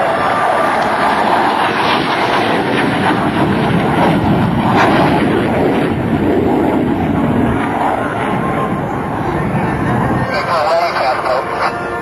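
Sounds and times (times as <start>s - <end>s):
jet fighter passing low: 0.0s - 12.0s.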